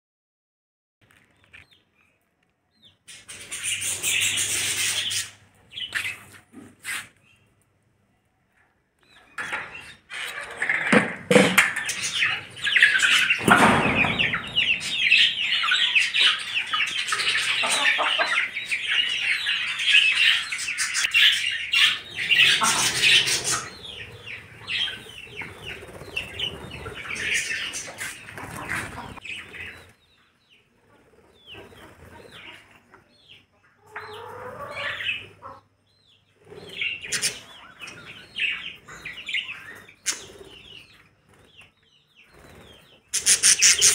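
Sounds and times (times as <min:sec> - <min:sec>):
budgerigars chirping and chattering: 0:02.8 - 0:07.4, 0:11.8 - 0:43.9
chickens clucking: 0:02.8 - 0:07.8, 0:08.4 - 0:43.9.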